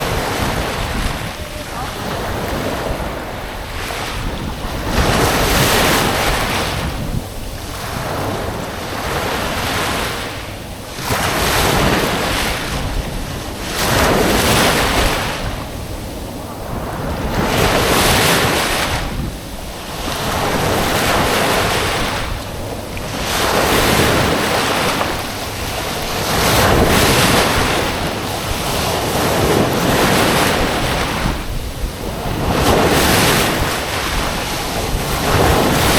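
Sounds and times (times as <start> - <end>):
small waves breaking on beach: 0.0 - 35.9
wind noise on microphone: 0.0 - 35.9.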